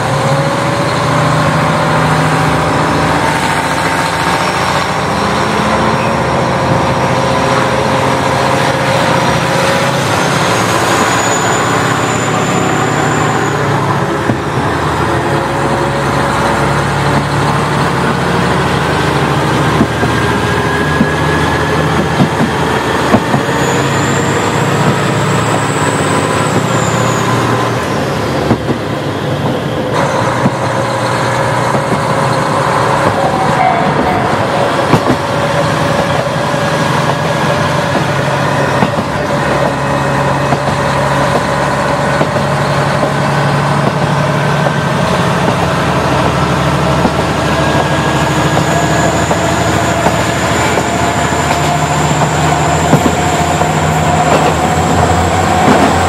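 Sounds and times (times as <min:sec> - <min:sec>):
diesel engine drone: 0:00.0 - 0:56.0
train wheel rumble: 0:00.0 - 0:56.0
wheels clicking over rail joints: 0:00.0 - 0:56.0.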